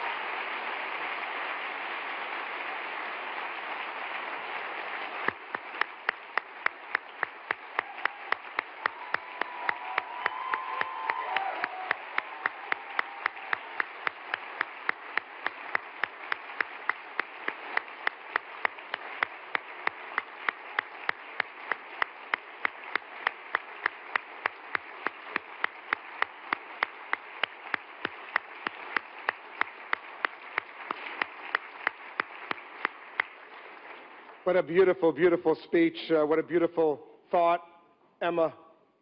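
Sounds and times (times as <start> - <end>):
loud handclaps close by: 0.0 - 34.5
audience applauding: 0.0 - 35.0.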